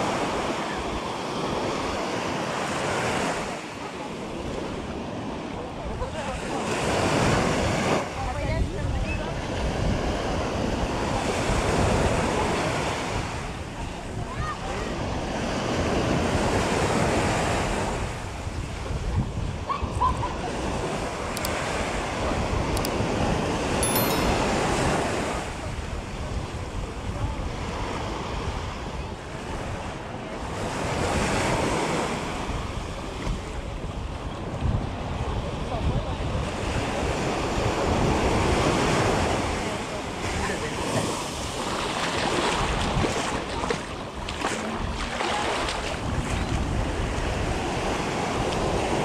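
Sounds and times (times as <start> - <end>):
surf washing up beach: 0.0 - 49.0
wind rumbling on microphone: 4.2 - 23.8, 24.6 - 49.0.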